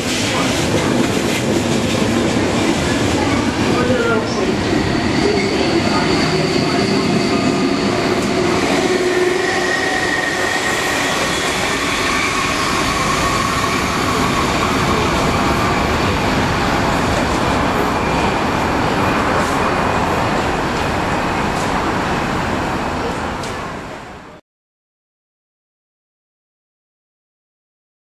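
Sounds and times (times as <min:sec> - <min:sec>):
train wheels rushing on rails: 0:00.0 - 0:24.1.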